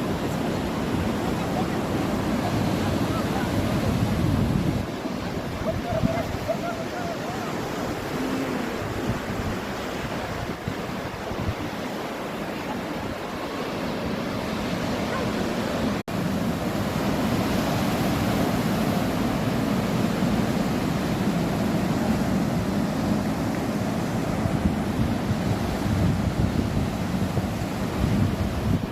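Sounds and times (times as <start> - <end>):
sea waves washing onto beach: 0.0 - 28.9
wind buffeting microphone: 0.0 - 28.9.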